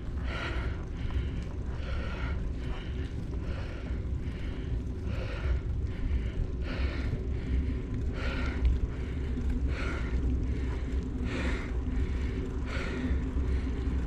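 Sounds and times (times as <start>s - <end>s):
person breathing heavily: 0.0s - 14.0s
wind rumbling on microphone: 0.0s - 14.0s.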